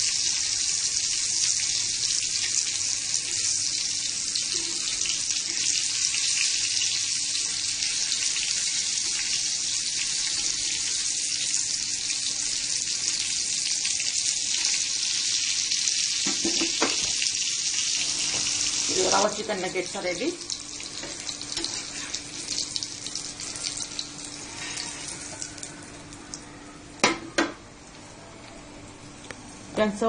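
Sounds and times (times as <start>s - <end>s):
food sizzling in hot oil: 0.0s - 25.8s.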